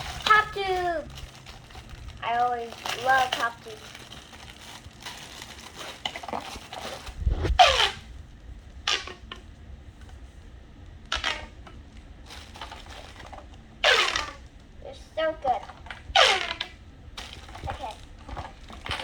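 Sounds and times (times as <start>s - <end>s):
ribbed plastic zips: 0.0s - 8.1s, 8.8s - 9.5s, 11.1s - 14.6s, 15.2s - 19.0s
plastic tubes crinkling: 0.0s - 19.0s.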